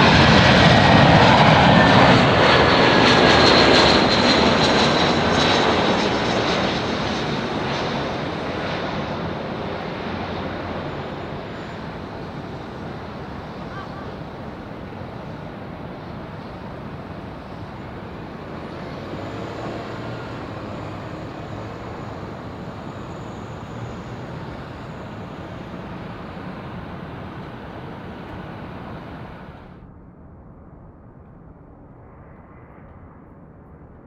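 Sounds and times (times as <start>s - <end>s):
distant jet airliner rumble: 0.0s - 29.8s
faint high engine whine: 0.0s - 29.8s.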